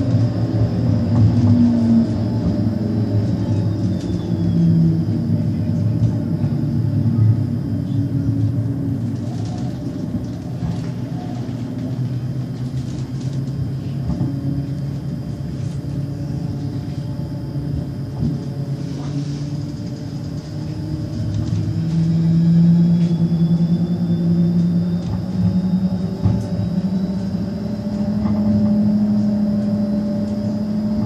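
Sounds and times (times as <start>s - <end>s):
faint high whine: 0.0s - 31.0s
low motor hum: 0.0s - 31.0s
tram wheels rumbling on rails: 0.0s - 31.0s.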